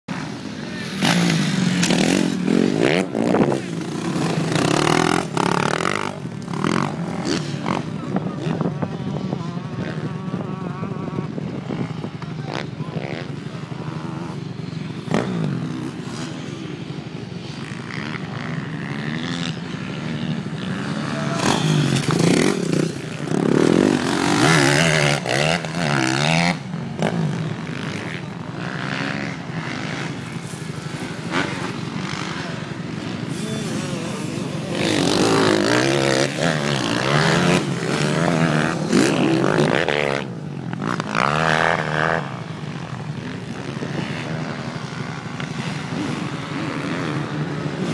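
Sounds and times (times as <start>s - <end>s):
motocross bikes revving past: 0.1s - 47.9s.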